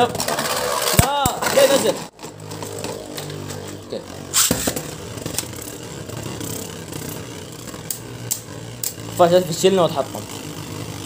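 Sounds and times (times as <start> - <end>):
spinning tops whirring: 0.0 - 11.0.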